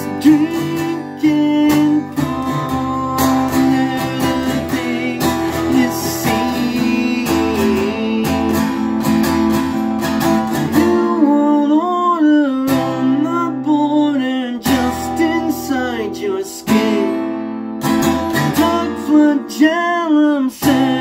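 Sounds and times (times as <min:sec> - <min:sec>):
acoustic guitar strumming: 0:00.0 - 0:21.0
wordless vocal melody: 0:00.0 - 0:21.0.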